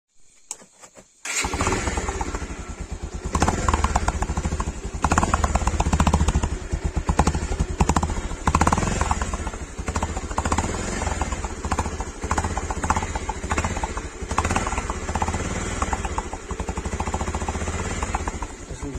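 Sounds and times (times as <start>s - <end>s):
motorcycle engine revving: 1.2s - 18.9s.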